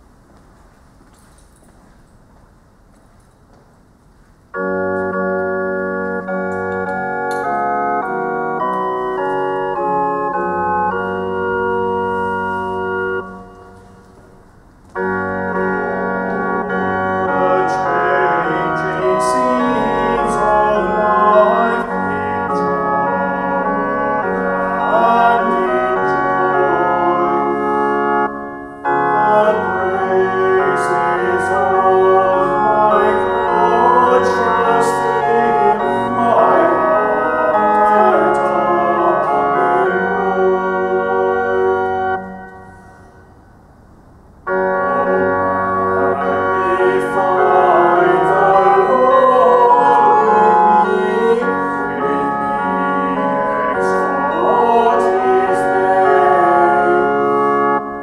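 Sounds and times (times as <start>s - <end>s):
church organ playing: 0.0s - 58.0s.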